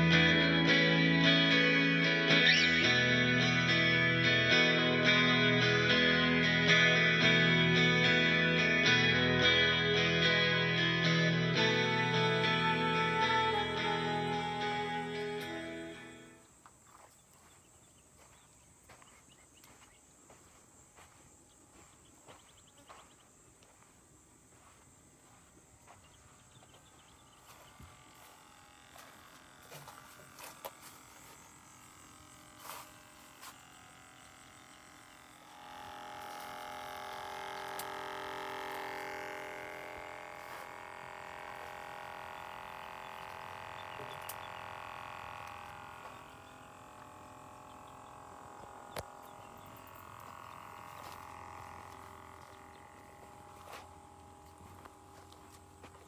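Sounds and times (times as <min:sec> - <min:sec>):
multi-tone drone: 0:00.0 - 0:16.5, 0:25.3 - 0:56.0
insects buzzing: 0:00.0 - 0:56.0.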